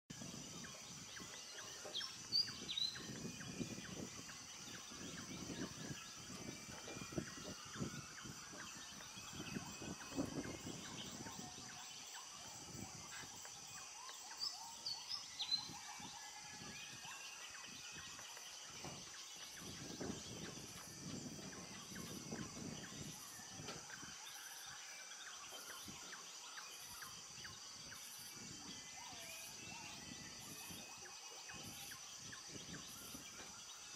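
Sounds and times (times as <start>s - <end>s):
high insect drone: 0.1s - 33.9s
pulsing insect call: 0.1s - 33.9s.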